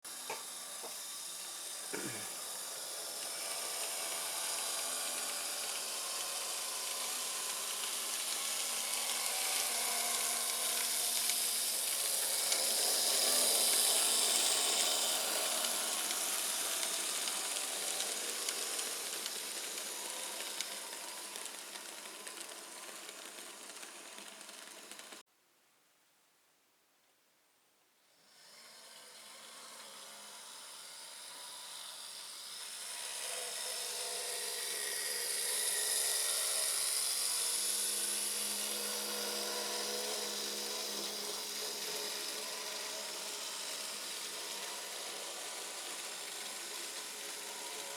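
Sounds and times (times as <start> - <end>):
model train running on track: 0.1 - 25.2, 28.3 - 47.9.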